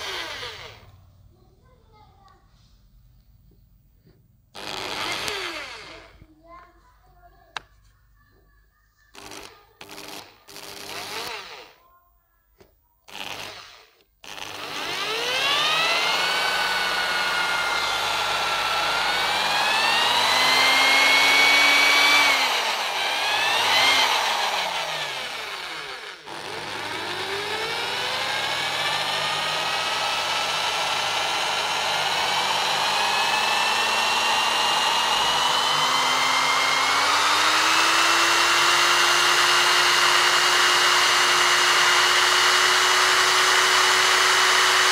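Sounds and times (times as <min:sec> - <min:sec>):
electric drill motor whine: 0:00.0 - 0:00.9, 0:04.5 - 0:06.2, 0:09.2 - 0:11.8, 0:13.1 - 0:44.9.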